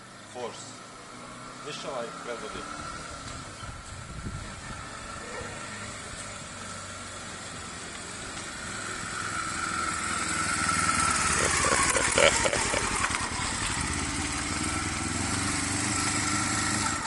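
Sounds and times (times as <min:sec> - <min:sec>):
motorcycle engine running: 0:02.6 - 0:17.0.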